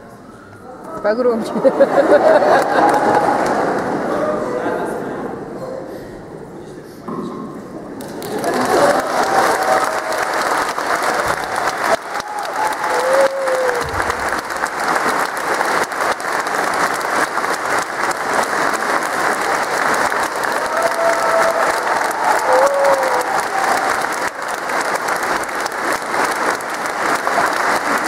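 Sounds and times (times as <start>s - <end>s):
audience applauding: 1.6s - 4.5s, 8.0s - 28.0s.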